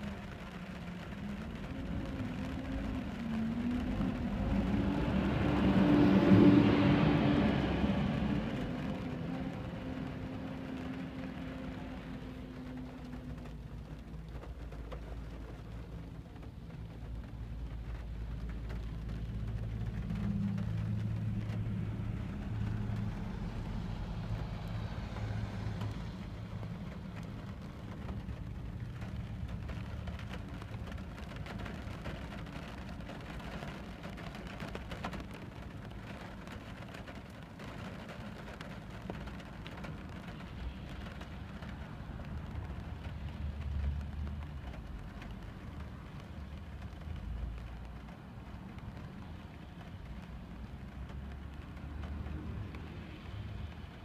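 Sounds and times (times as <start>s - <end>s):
car engine hum: 0.0s - 54.0s
raindrops hitting car: 0.0s - 54.0s
road noise: 0.0s - 54.0s.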